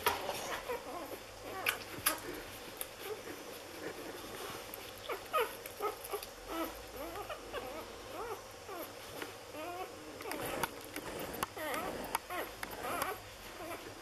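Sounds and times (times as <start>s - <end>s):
puppies squeaking and whimpering: 0.0s - 2.2s, 3.0s - 13.9s.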